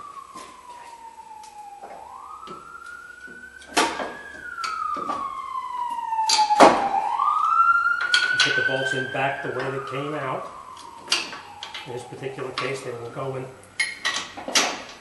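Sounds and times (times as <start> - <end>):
siren wailing: 0.0 - 14.8.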